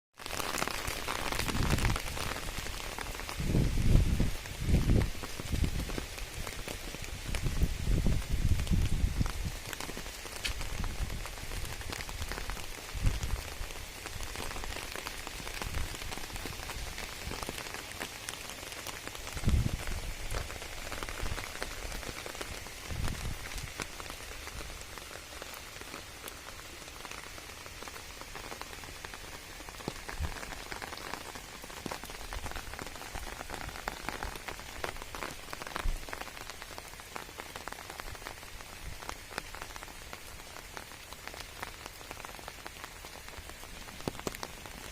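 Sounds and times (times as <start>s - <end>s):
steady rain on plants: 0.1s - 44.9s.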